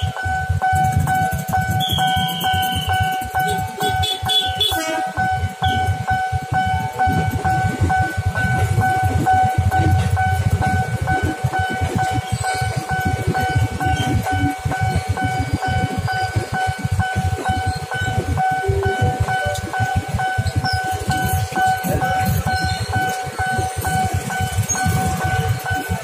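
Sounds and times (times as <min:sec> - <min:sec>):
crossing warning bell ringing: 0:00.0 - 0:26.0
electric train passing: 0:00.0 - 0:26.0.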